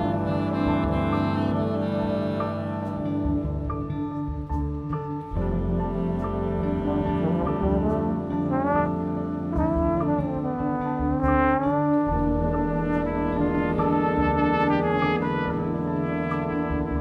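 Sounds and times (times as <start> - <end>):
jazz horn section holding notes: 0.0 - 4.7, 5.3 - 17.0
steady low bass line: 0.0 - 17.0.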